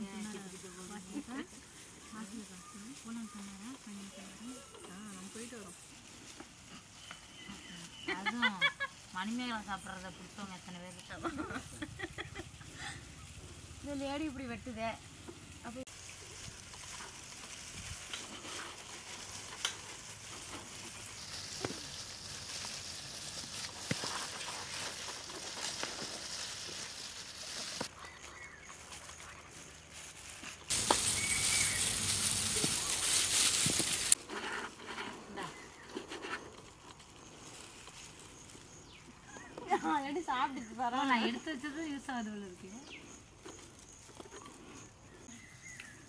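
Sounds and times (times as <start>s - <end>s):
plastic glove rustling: 0.0s - 45.3s.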